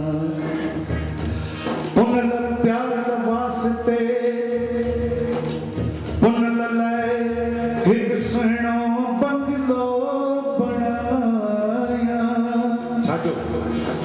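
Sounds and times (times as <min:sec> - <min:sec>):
man singing long bending notes: 0:00.0 - 0:14.0.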